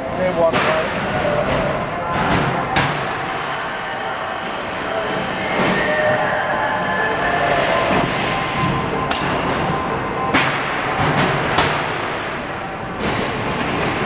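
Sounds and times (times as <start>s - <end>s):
conveyor machinery noise: 0.0s - 14.0s.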